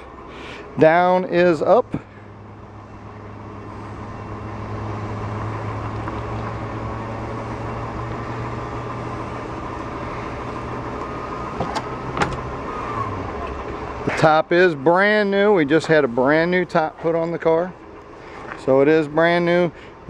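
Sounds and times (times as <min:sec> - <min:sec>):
motor-pump hum: 0:00.0 - 0:20.0.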